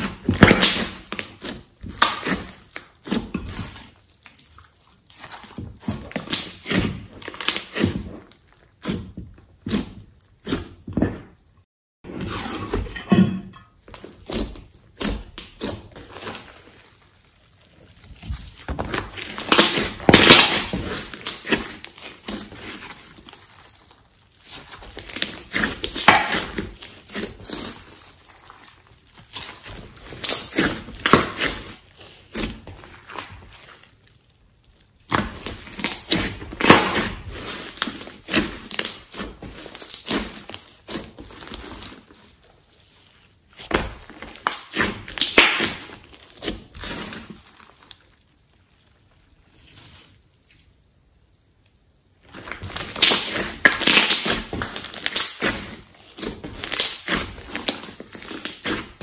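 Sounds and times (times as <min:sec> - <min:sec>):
slime squelching: 0:00.0 - 0:13.1, 0:13.7 - 0:50.4, 0:52.0 - 0:59.0.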